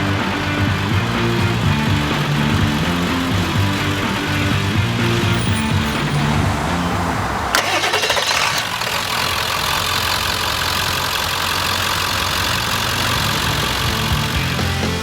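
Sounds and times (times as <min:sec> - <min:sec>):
diesel engine starting and idling: 0:00.0 - 0:15.0.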